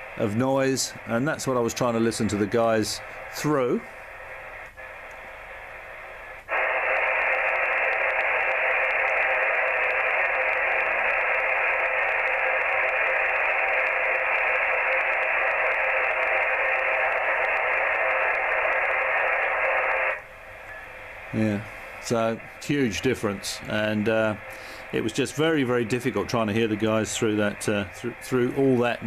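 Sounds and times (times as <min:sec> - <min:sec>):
radio receiver hissing: 0:00.0 - 0:29.0.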